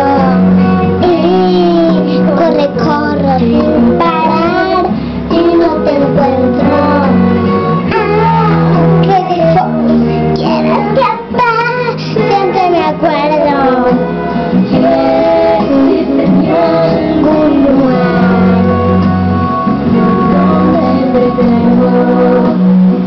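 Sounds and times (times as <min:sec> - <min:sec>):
girl singing: 0:00.0 - 0:19.0, 0:19.9 - 0:22.5
instrumental backing music: 0:00.0 - 0:23.0.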